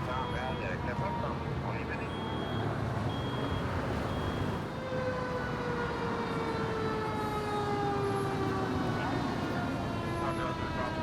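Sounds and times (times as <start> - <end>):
fire truck siren: 0.0 - 11.0.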